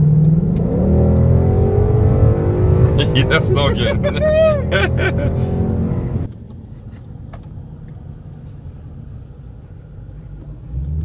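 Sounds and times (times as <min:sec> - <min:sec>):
car engine droning: 0:00.0 - 0:11.0
road rumble: 0:00.0 - 0:11.0.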